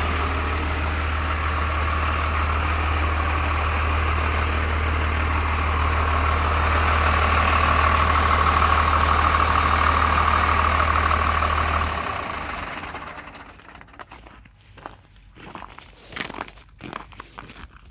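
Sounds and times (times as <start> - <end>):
engine whine: 0.0 - 14.5
diesel truck engine idling: 0.0 - 14.9.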